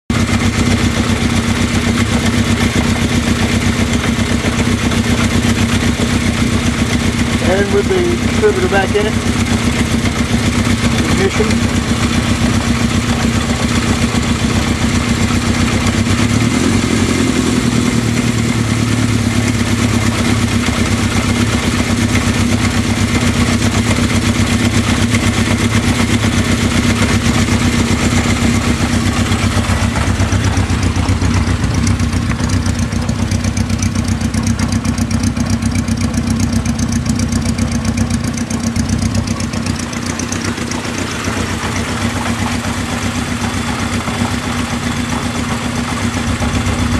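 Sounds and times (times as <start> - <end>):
motorcycle engine idling: 0.1 - 46.9.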